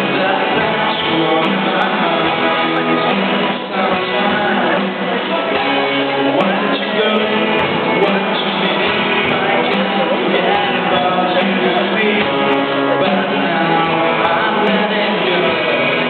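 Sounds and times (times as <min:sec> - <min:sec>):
band playing rock song: 0:00.0 - 0:16.0
guitars: 0:00.0 - 0:16.0
person singing: 0:00.0 - 0:16.0.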